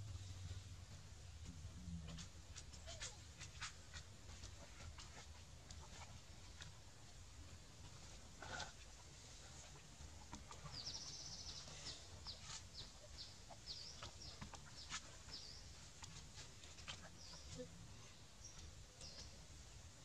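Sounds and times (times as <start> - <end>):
faint bird chirping: 2.1 - 20.0.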